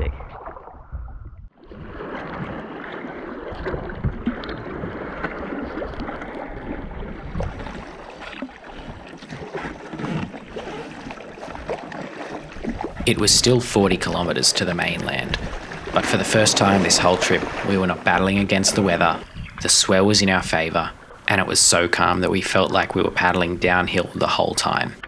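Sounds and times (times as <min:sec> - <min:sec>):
water splashing around kayak hull: 0:00.0 - 0:25.0.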